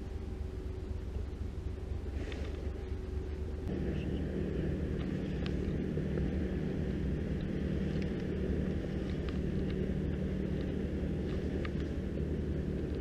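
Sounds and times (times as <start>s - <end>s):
ship diesel engine drone: 0.0s - 13.0s.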